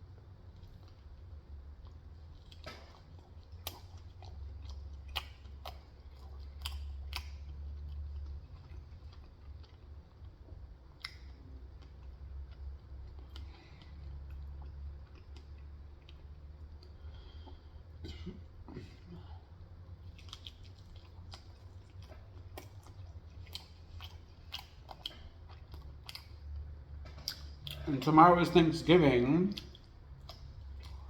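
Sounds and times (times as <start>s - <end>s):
steady low hum: 0.0s - 31.0s
person chewing food: 0.5s - 28.6s, 29.5s - 31.0s.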